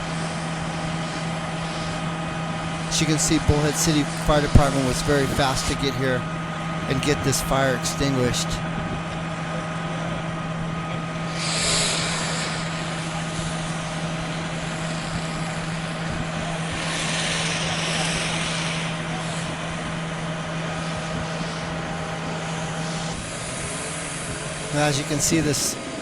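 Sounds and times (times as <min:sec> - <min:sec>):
fire truck engine droning: 0:00.0 - 0:26.0
hissing: 0:00.8 - 0:08.6, 0:11.2 - 0:25.8.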